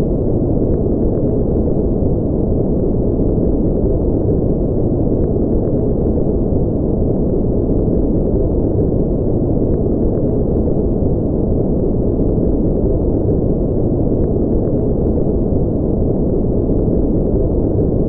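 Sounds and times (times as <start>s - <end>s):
deep rumbling brown noise: 0.0s - 18.0s.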